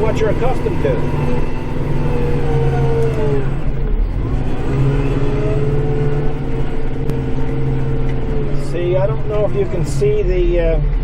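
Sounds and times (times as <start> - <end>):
steady whine: 0.0 - 11.0
tractor diesel engine running: 0.0 - 11.0.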